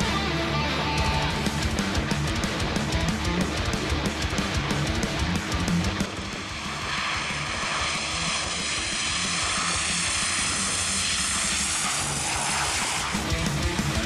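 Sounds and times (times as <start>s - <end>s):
turboprop aircraft whine: 0.0s - 14.0s.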